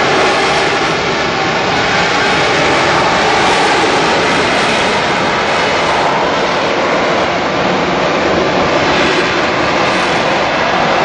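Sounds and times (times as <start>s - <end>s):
jet engine running loud: 0.0s - 11.0s.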